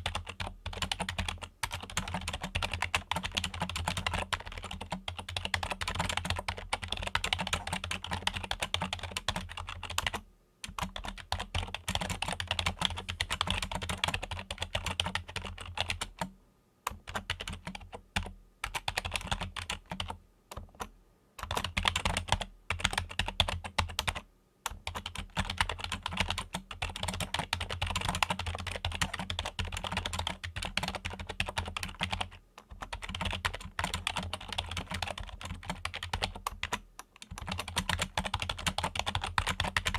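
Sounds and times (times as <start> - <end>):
fast typing on keyboard: 0.0 - 16.3, 16.9 - 39.9.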